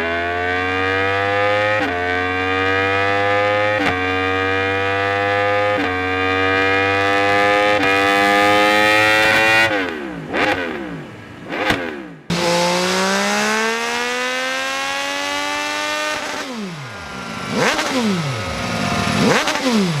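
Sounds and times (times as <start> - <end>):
motorcycle engine accelerating: 0.0 - 20.0
motorcycle throttle blips: 0.8 - 20.0.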